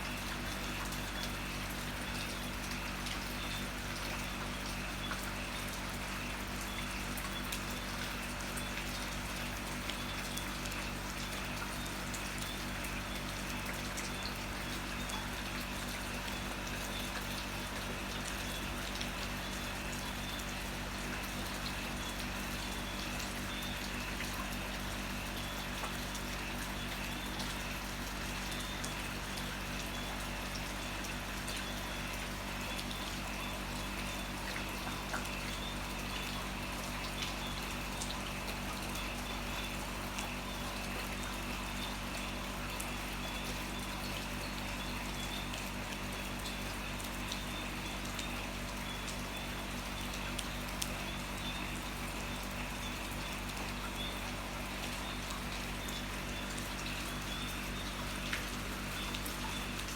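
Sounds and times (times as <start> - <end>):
water drips: 0.0 - 59.9.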